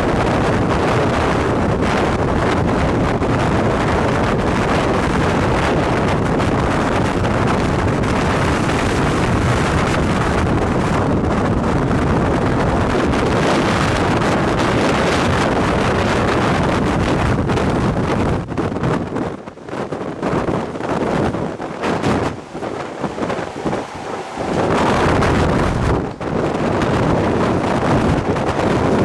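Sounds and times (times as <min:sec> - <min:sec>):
storm wind buffeting microphone: 0:00.0 - 0:29.0.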